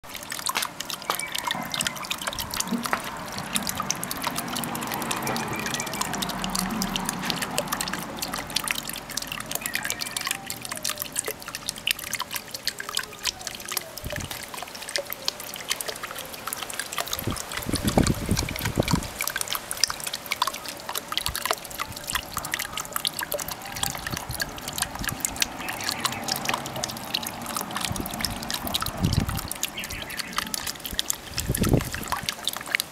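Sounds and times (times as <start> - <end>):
water trickling into pond: 0.0 - 32.9.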